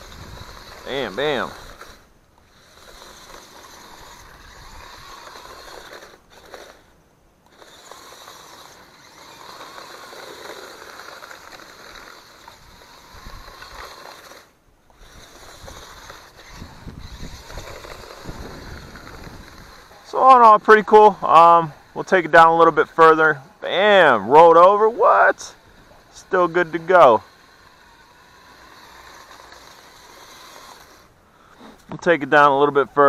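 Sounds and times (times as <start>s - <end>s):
gravel crunching under wheels: 0.0s - 33.0s
rc truck motor whirring: 0.0s - 33.0s.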